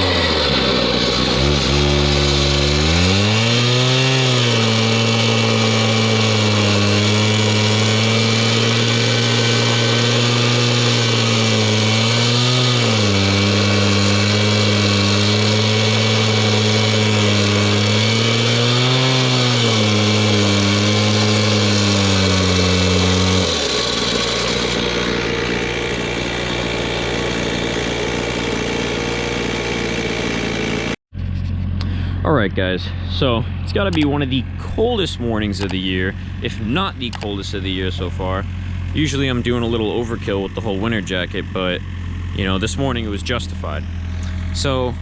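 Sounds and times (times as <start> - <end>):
concrete saw engine running: 0.0 - 45.0.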